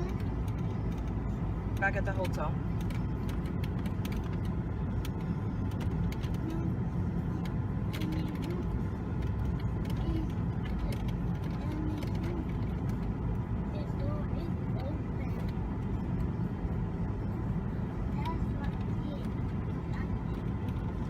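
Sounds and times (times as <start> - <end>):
faint clicks and rattles: 0.0 - 21.0
road and engine rumble in car: 0.0 - 21.0.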